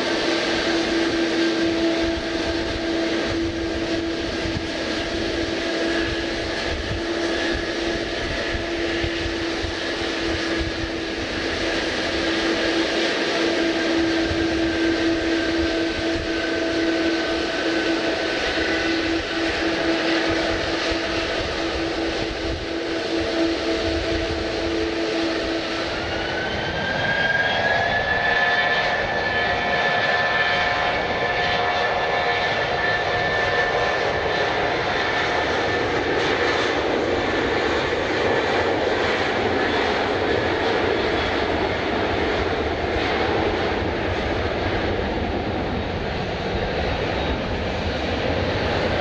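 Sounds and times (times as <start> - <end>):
jet engine roar: 0.0 - 49.0
jet engine whine: 0.0 - 49.0.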